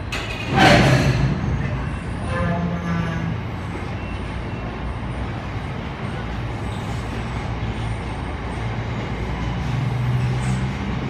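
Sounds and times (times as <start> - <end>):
diesel train engine humming: 0.0 - 11.0.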